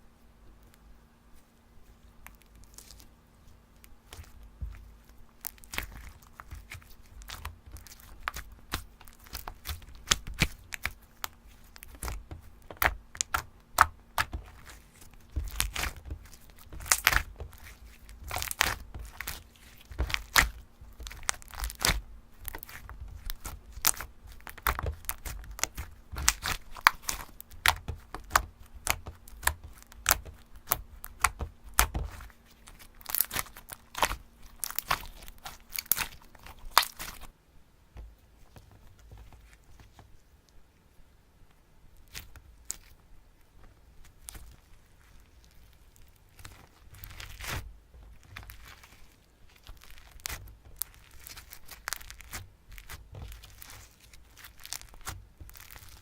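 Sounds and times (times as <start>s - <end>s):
faint steady hum: 0.0s - 56.0s
slime squished by hand: 3.8s - 37.3s, 44.0s - 56.0s.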